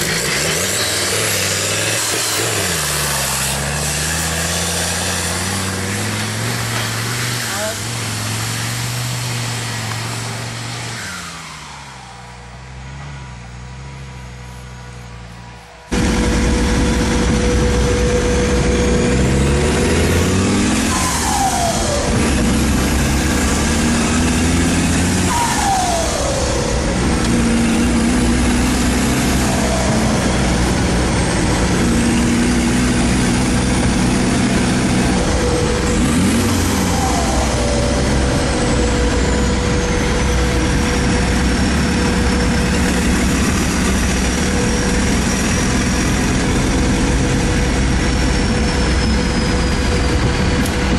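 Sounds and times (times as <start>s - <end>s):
engine running under load: 0.0s - 50.9s
high turbo whine: 0.0s - 50.9s.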